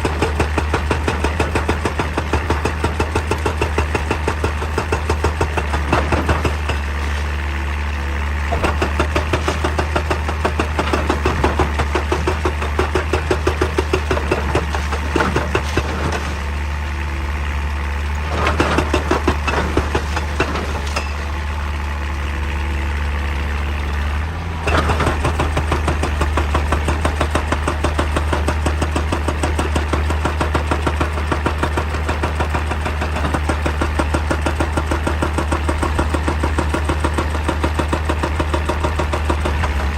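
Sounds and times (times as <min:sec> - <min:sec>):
hydraulic breaker hammering stone: 0:00.0 - 0:07.3, 0:08.4 - 0:16.7, 0:18.2 - 0:21.6, 0:24.6 - 0:39.9
diesel engine running: 0:00.0 - 0:39.9.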